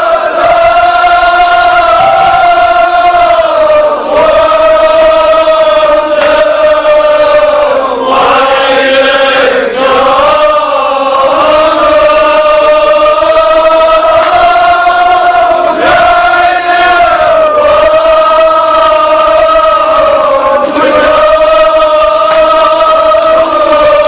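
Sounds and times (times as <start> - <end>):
men chanting in held notes: 0.0 - 24.0.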